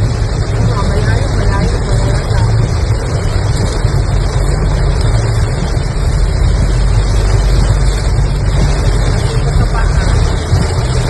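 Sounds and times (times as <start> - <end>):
car engine and tyres rumbling: 0.0 - 11.0
rain and road spray hiss: 0.0 - 11.0.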